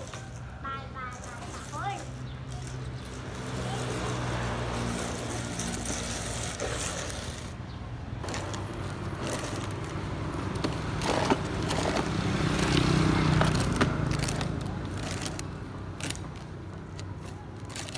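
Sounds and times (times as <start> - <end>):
plastic toy wheels rolling on dirt: 0.0 - 17.9.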